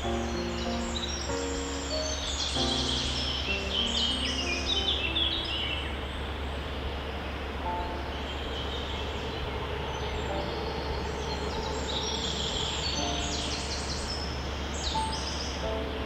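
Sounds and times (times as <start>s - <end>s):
background hiss: 0.0s - 16.0s
songbirds chirping: 0.0s - 16.0s.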